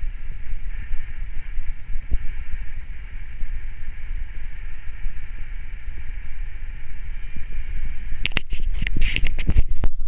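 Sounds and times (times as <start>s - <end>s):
model helicopter rotor whine: 0.0s - 9.8s
wind on microphone: 0.0s - 10.0s.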